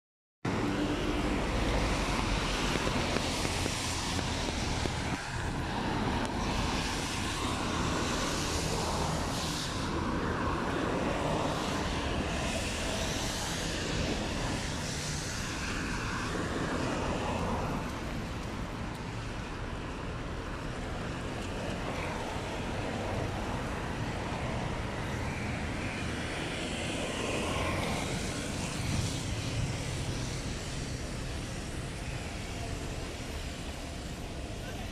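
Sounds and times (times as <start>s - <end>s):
rumble of traffic engines: 0.5s - 34.9s
tyres hissing on wet road: 0.5s - 34.9s.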